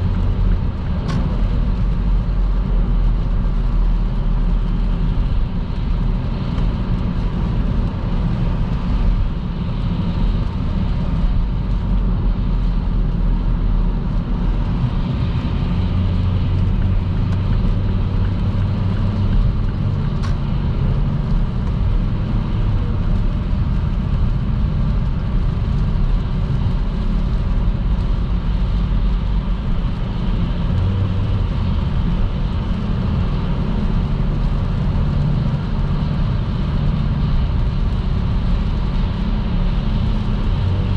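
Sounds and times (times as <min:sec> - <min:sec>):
tyre and road noise: 0:00.0 - 0:40.9.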